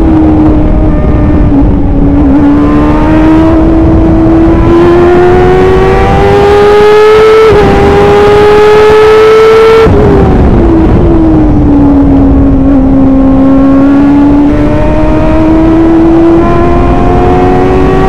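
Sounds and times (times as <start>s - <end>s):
race car engine revving: 0.0s - 18.0s
wind and tyre noise: 0.0s - 18.0s.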